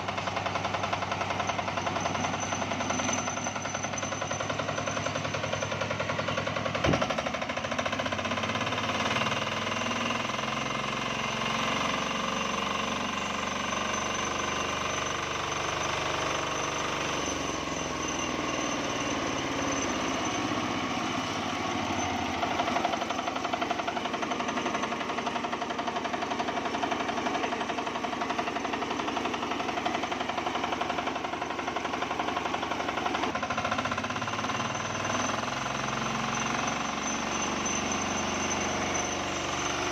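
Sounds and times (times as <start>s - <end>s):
diesel engine knocking clatter: 0.0s - 39.9s.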